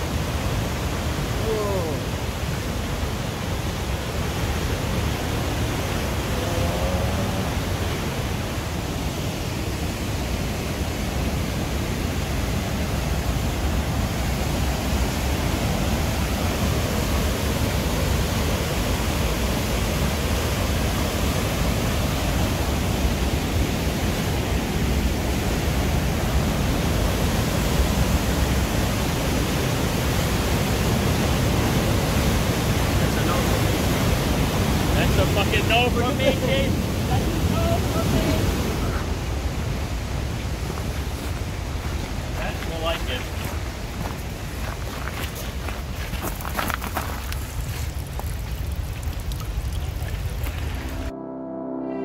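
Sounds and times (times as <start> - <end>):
whitewater rushing through gorge: 0.0 - 51.1.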